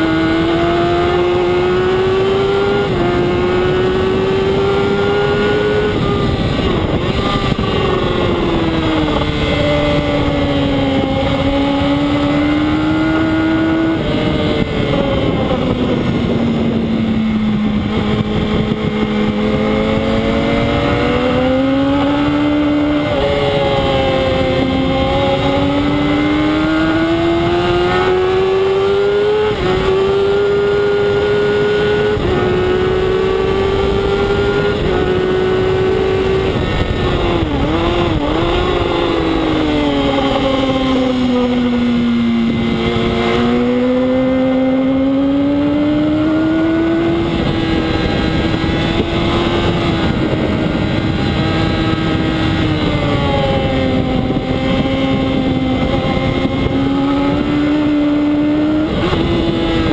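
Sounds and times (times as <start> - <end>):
motorcycle engine running hard: 0.0 - 59.9
wind rush on microphone: 0.0 - 59.9.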